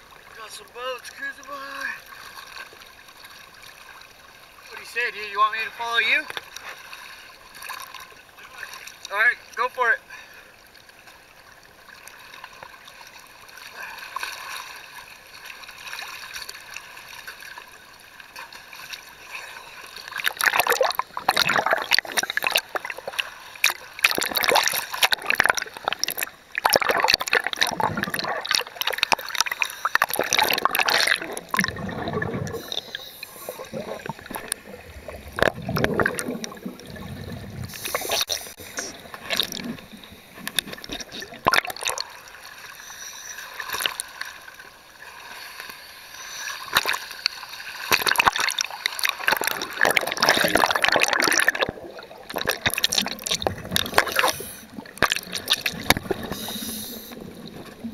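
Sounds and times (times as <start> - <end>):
sea water sloshing and gurgling: 0.0 - 57.9
underwater bubbling and splashing: 0.0 - 57.9.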